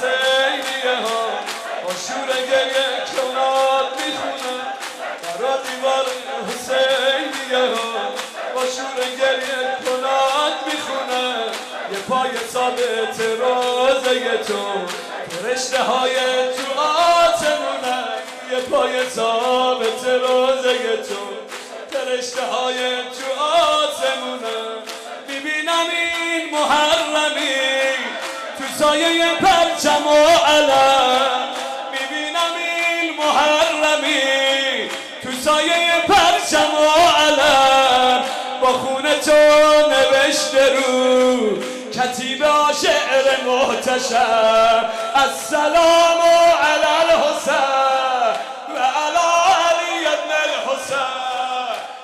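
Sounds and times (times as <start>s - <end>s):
man singing a lament into microphone: 0.0s - 52.0s
mourners striking their chests: 0.0s - 52.0s.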